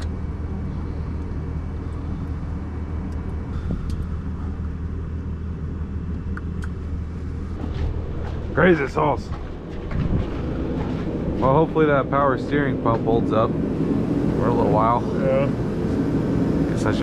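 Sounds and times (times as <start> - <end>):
truck engine running loudly: 0.0 - 17.0.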